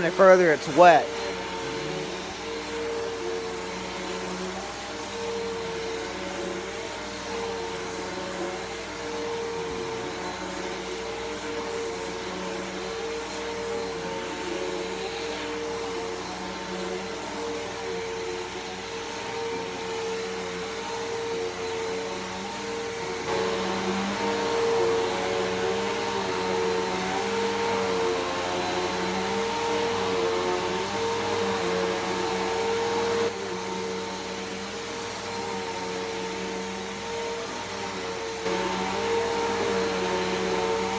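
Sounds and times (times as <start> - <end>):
vacuum cleaner running over a rug: 0.0 - 40.9.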